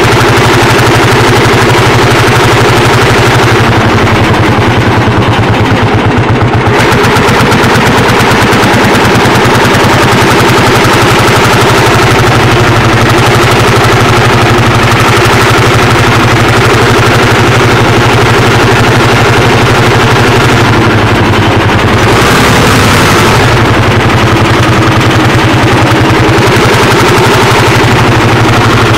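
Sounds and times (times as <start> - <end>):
tractor engine staccato exhaust beat: 0.0 - 28.9.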